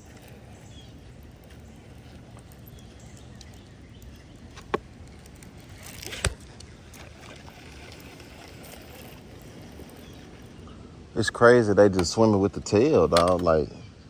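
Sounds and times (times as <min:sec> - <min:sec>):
low outdoor background noise: 0:00.0 - 0:14.0.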